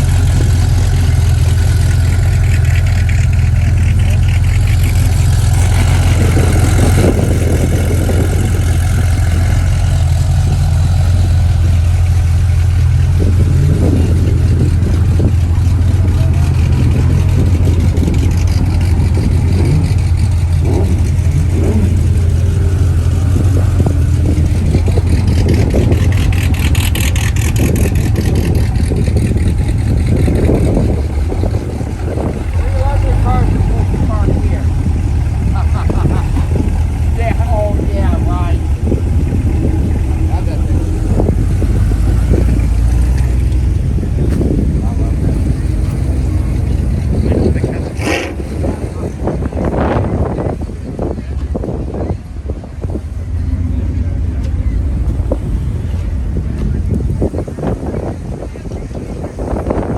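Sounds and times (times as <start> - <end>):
car engines revving: 0.0 - 59.9
heavy low rumble: 0.0 - 59.9.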